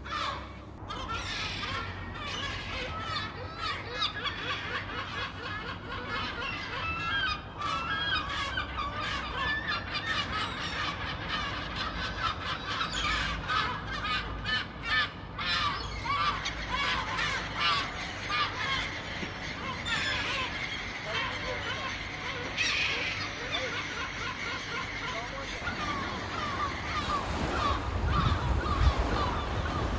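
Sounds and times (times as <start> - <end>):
gulls calling: 0.0 - 29.9.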